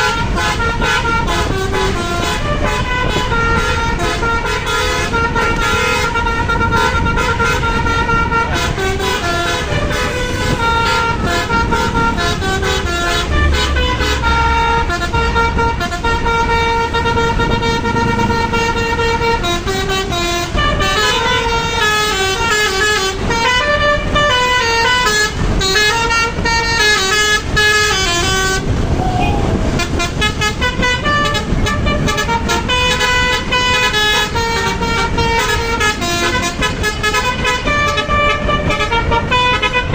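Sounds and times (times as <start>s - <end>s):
musical air horn playing a tune: 0.0s - 39.9s
traffic rumble: 0.0s - 39.9s.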